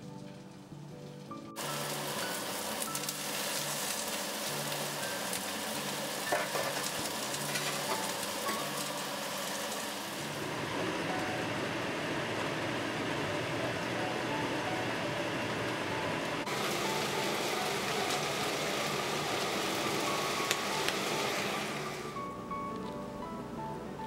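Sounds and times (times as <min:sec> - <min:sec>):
chicken sizzling in a pan: 0:01.6 - 0:22.2.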